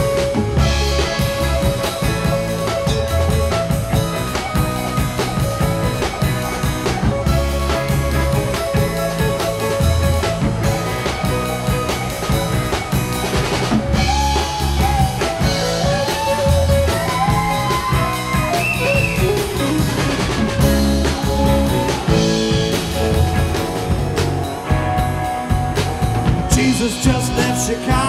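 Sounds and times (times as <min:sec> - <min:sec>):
bass guitar: 0:00.0 - 0:28.0
drum kit: 0:00.0 - 0:28.0
electric guitar lead: 0:00.0 - 0:28.0.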